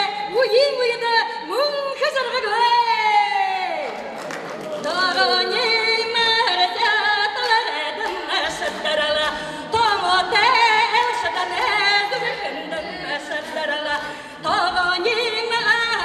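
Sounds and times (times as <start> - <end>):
woman singing into a microphone: 0.0 - 3.8, 4.9 - 16.0.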